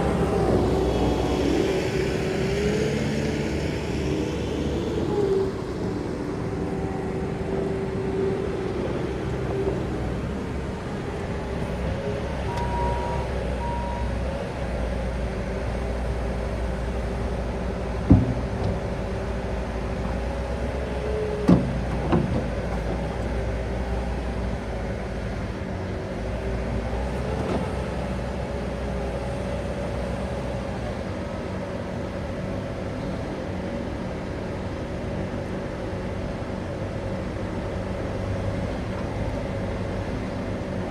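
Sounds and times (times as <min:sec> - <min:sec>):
skid steer diesel engine running: 0:00.0 - 0:40.9.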